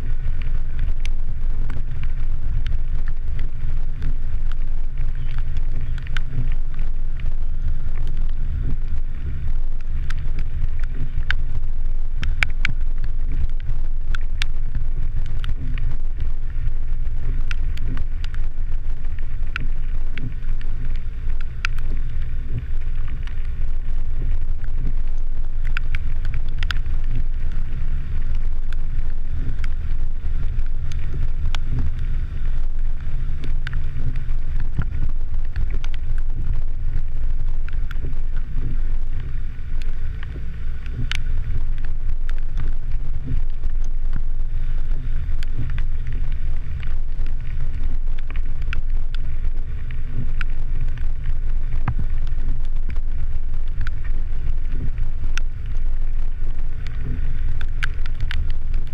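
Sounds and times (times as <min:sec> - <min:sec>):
wind and road noise rumble: 0:00.0 - 0:58.9.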